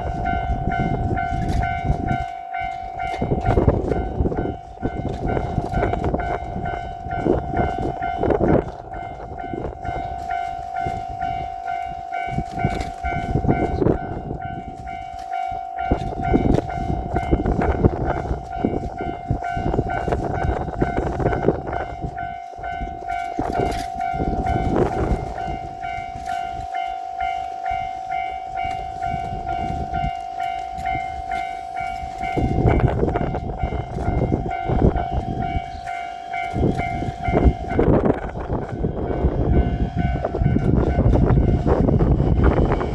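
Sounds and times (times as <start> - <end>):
electric train rumbling past: 0.0 - 42.9
level-crossing alarm ringing: 0.0 - 42.9
train wheels clacking: 0.0 - 42.9.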